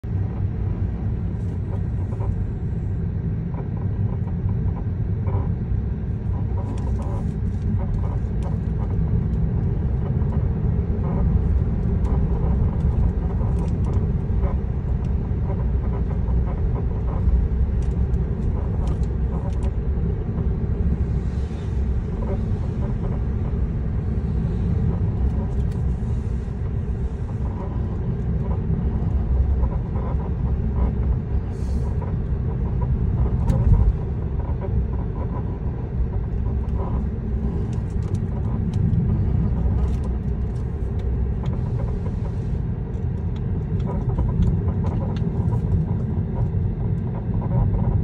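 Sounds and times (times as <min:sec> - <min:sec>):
road and tyre rumble in car: 0:00.0 - 0:48.0.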